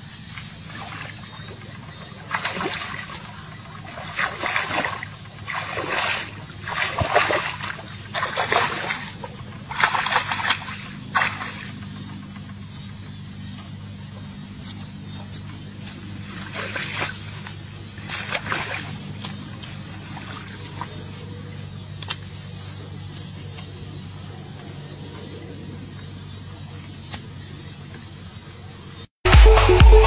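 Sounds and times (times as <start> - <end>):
legs wading through muddy water: 0.0 - 28.1.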